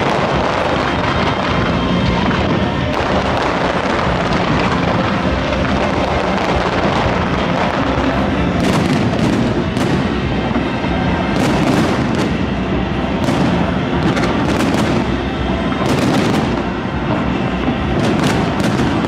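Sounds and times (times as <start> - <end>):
rumble of bursting fireworks: 0.0 - 19.0
sharp firework bangs and crackles: 0.0 - 19.0.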